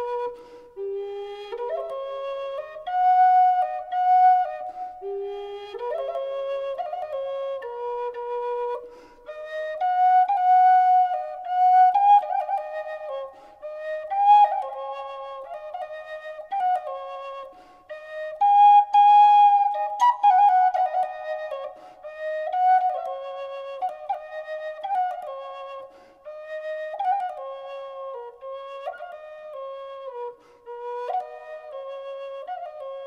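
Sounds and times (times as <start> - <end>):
solo flute melody: 0.0 - 33.0.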